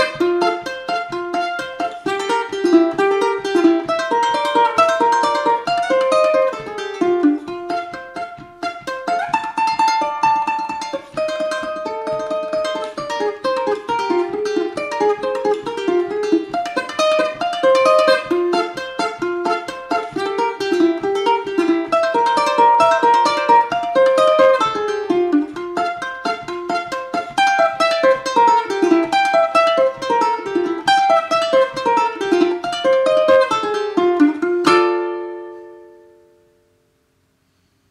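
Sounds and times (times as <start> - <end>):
solo ukulele tune: 0.0 - 37.2.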